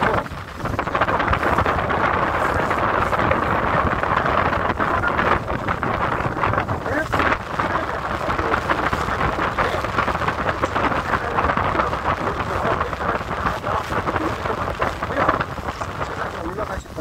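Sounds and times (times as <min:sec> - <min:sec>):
boat engine: 0:00.0 - 0:17.0
water splashing: 0:00.0 - 0:17.0
wind buffeting microphone: 0:00.0 - 0:17.0.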